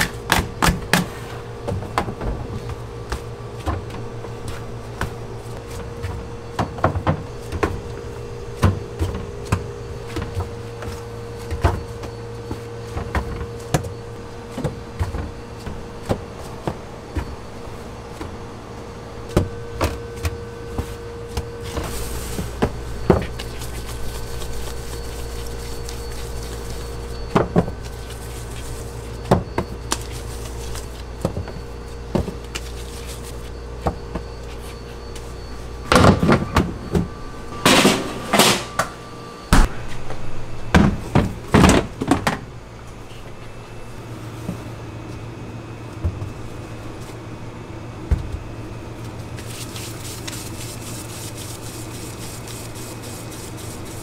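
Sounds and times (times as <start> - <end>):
kitchen equipment hum: 0.0 - 54.0.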